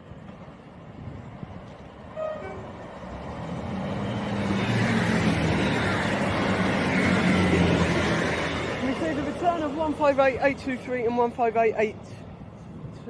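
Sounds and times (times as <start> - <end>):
diesel train engine: 0.0 - 11.5
train wheels rumbling on rails: 0.0 - 11.5.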